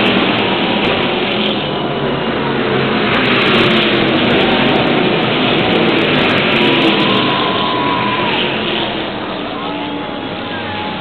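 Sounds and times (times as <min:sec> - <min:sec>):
race cars passing at full throttle: 0:00.0 - 0:11.0.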